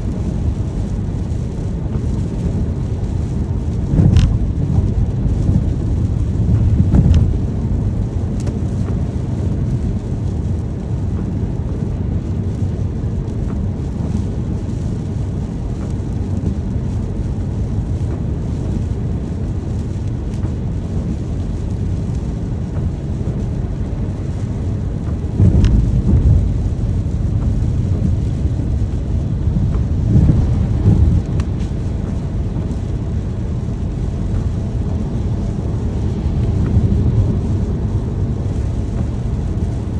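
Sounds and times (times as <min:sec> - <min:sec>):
rainstorm with deep rumble: 0:00.0 - 0:39.9.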